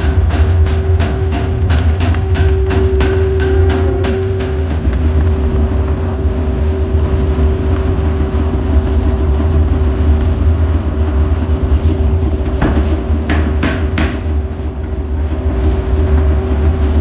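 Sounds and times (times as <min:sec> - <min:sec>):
workshop machinery rumbling: 0:00.0 - 0:17.0.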